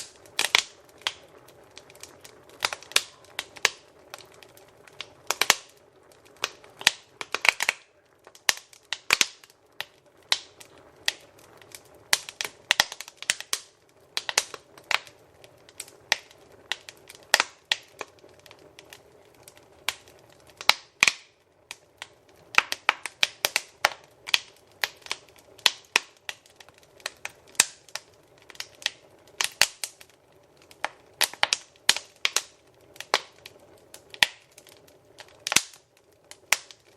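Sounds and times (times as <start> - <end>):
soft rush of flames: 0.0 - 36.9
wood fire crackling: 0.0 - 36.9.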